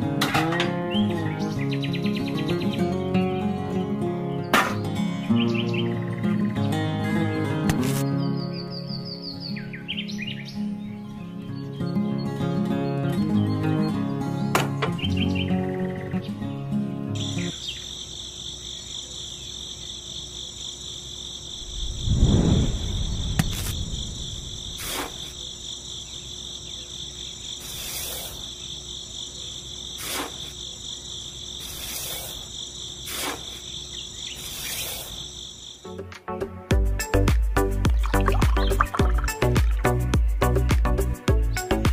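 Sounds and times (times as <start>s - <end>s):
insects trilling: 0.0s - 10.8s, 11.5s - 36.1s.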